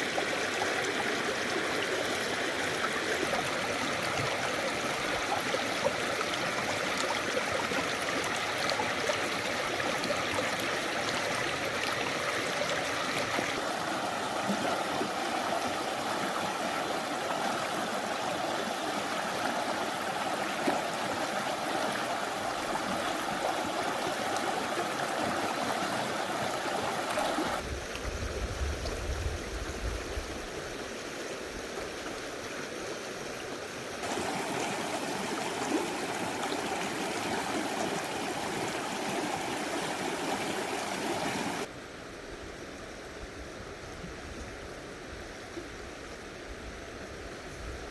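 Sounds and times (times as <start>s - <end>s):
stream rushing over rocks: 0.0s - 41.7s.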